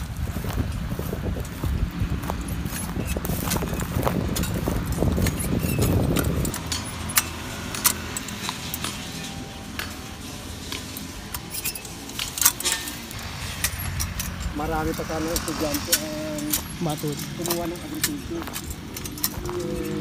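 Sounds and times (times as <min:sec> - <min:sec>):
metallic clicks of corn planter: 0:03.5 - 0:20.0.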